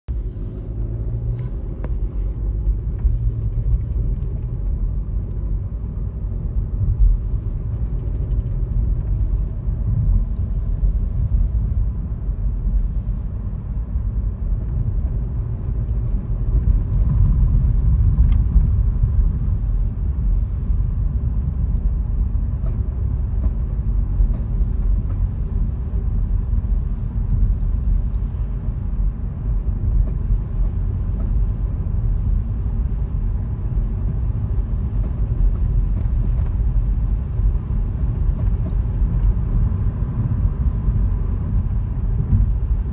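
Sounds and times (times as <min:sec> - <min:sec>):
car engine low rumble: 0:00.0 - 0:42.9.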